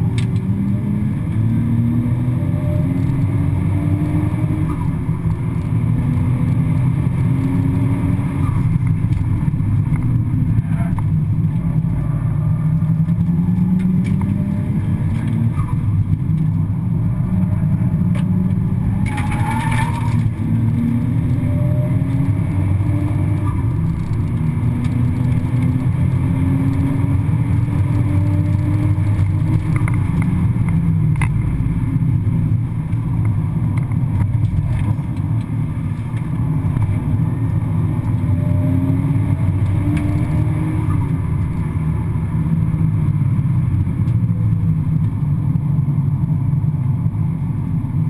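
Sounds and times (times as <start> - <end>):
car engine revving under load: 0.0 - 48.0.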